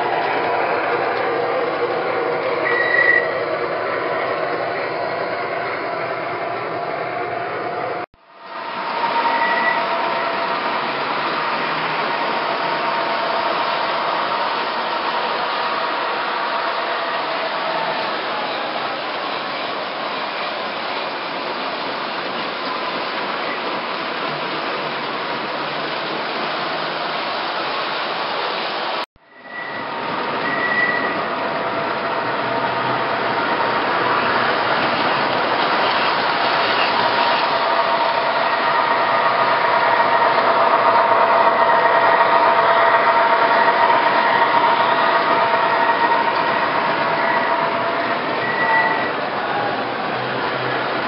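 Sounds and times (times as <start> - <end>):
model train running on track: 0.0 - 51.0.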